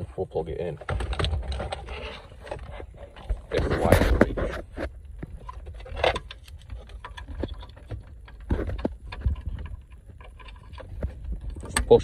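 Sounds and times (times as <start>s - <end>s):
cable rustling: 0.8s - 12.0s.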